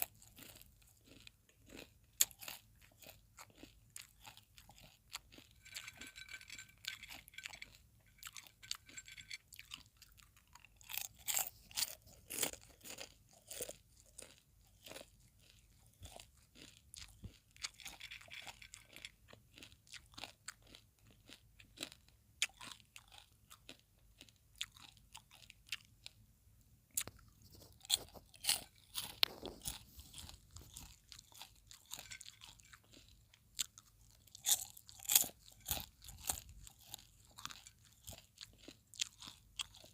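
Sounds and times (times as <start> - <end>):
chewing popcorn crunches: 0.0 - 26.2, 26.9 - 39.9.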